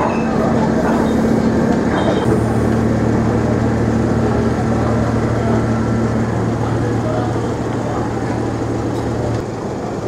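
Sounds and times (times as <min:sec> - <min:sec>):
diesel engines running: 0:00.0 - 0:10.0.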